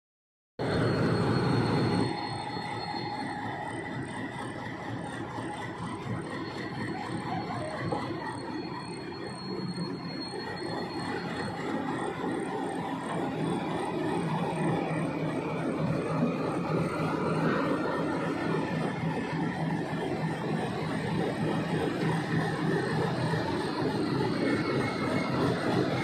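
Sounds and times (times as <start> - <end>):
diesel locomotive engine rumble: 0.6 - 26.0
high-pitched wheel squeal: 0.6 - 26.0
wheels rumbling on rail: 0.6 - 26.0.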